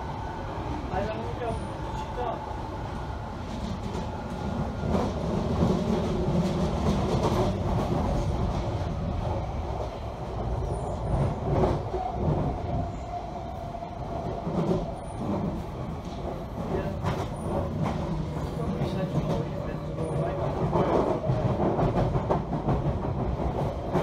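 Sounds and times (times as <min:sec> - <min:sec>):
train car rumbling: 0:00.0 - 0:24.0.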